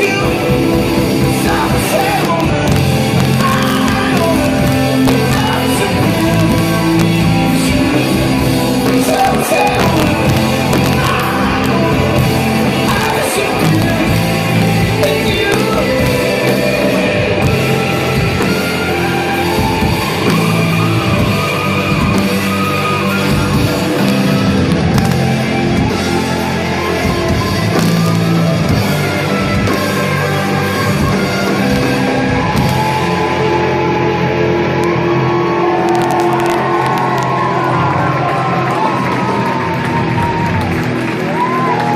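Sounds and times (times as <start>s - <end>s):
person singing: 0.0s - 34.6s
live rock band playing: 0.0s - 41.9s.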